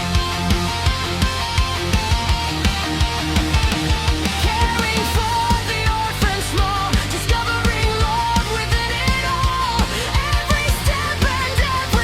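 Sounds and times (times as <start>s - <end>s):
industrial metal music: 0.0s - 12.0s
fast kick drum beat: 0.2s - 12.0s.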